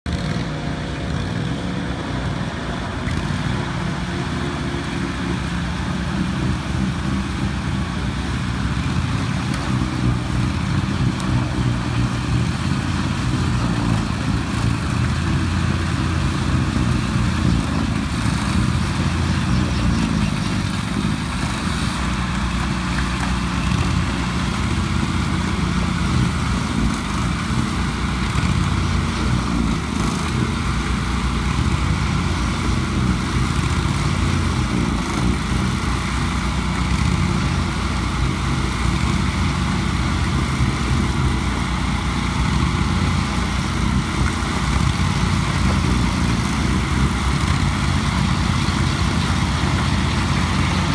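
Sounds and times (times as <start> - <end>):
snow blower engine: 0.0 - 50.9
tracked vehicle engine: 0.0 - 50.9.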